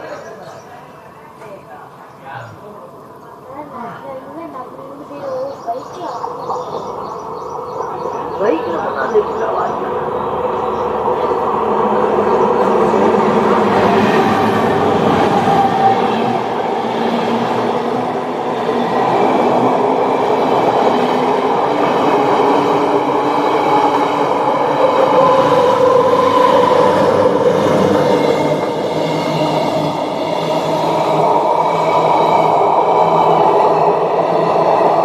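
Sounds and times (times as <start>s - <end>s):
train wheels rumbling on rails: 3.2s - 35.0s.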